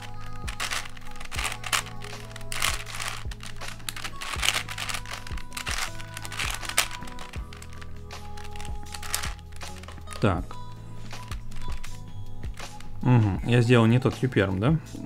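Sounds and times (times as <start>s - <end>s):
plastic puzzle clicking and rattling: 0.0s - 10.4s, 11.1s - 13.0s
soft background music: 0.0s - 15.0s.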